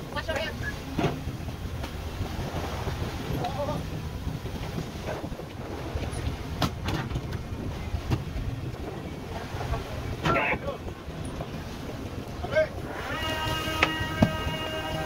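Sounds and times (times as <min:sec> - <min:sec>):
ship engine rumble: 0:00.0 - 0:15.0
wind on microphone: 0:00.0 - 0:15.0.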